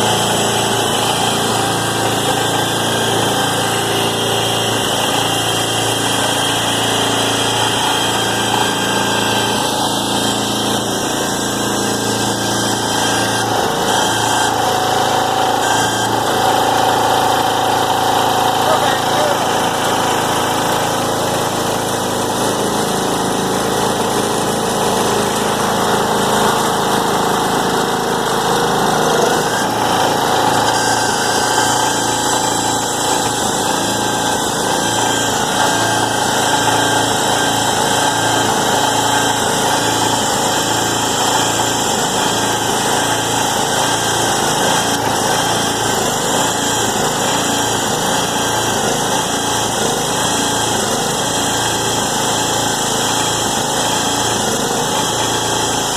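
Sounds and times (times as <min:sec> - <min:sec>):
baler motor running: 0:00.0 - 0:55.9.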